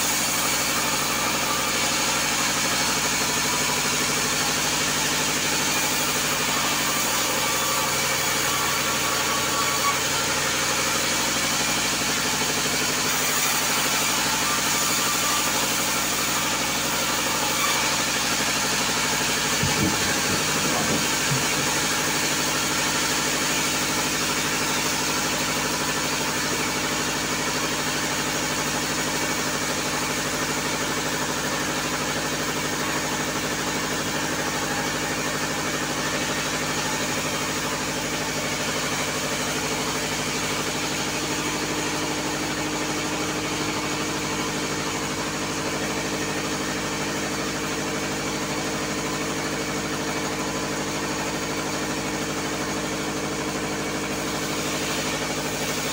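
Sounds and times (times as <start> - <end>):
bandsaw mill humming: 0.0 - 55.9.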